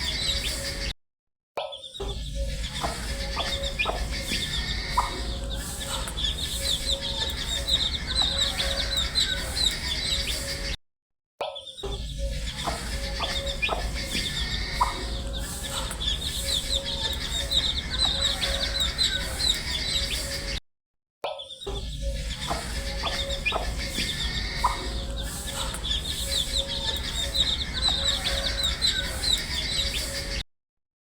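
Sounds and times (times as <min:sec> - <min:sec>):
baby chicks peeping: 0:00.0 - 0:00.8, 0:02.4 - 0:10.7, 0:11.9 - 0:20.6, 0:21.6 - 0:30.4.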